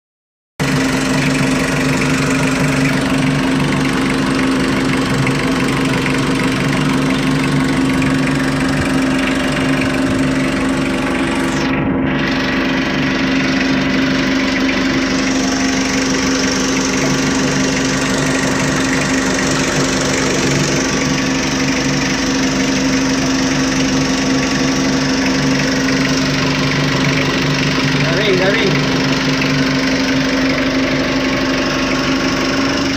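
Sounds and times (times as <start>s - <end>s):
diesel engine idling: 0.6s - 32.9s.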